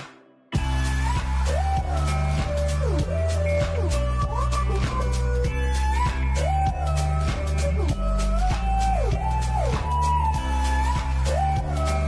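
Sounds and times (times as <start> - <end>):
melody with gliding notes: 0.6 - 12.0
steady beat: 0.6 - 12.0.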